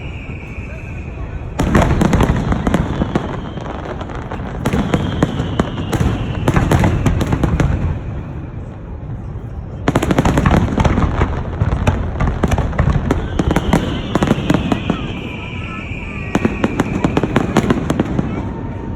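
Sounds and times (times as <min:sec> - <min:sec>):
fireworks crackling and popping: 0:00.0 - 0:18.9.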